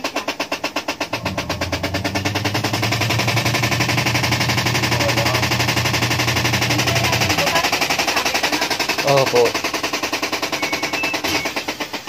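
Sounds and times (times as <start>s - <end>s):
washing machine motor hum: 0.0s - 12.0s
washing machine rattling: 0.0s - 12.0s.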